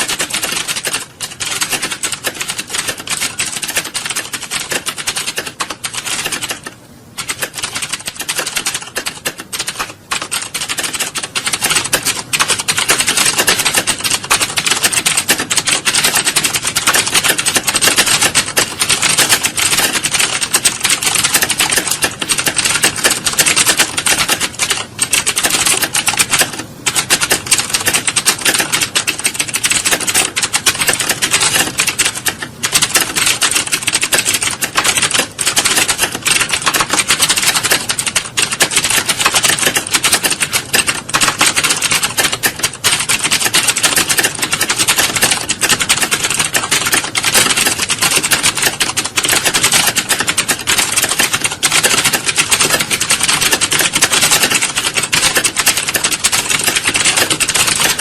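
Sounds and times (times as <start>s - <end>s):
many keyboards typing: 0.0s - 58.0s.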